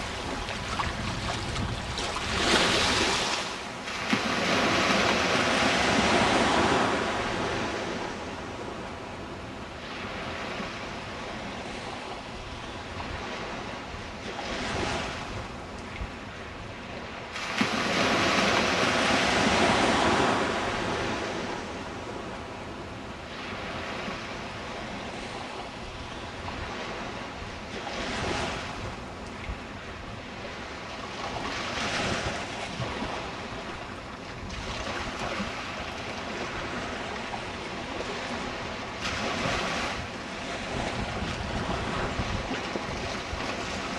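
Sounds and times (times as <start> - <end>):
ocean waves breaking on beach: 0.0 - 43.9
wind against microphone: 0.0 - 43.9.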